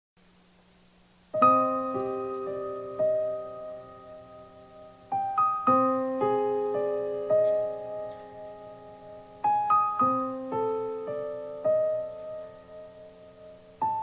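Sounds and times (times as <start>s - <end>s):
slow piano notes: 1.3s - 14.0s.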